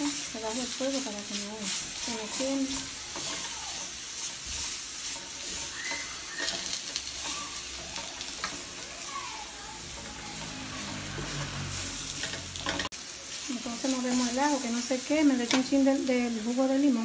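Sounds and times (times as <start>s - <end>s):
potatoes sizzling in frying pan: 0.0s - 17.0s
stirring in pan: 0.0s - 17.0s.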